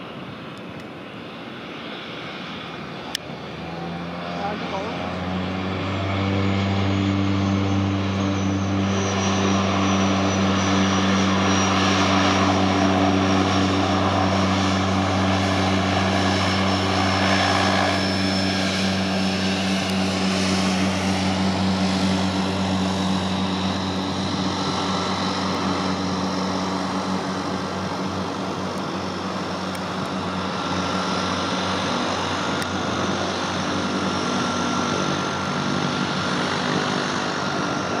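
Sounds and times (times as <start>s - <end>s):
high turbine whine: 0.0s - 38.0s
turboprop engines droning: 0.0s - 38.0s.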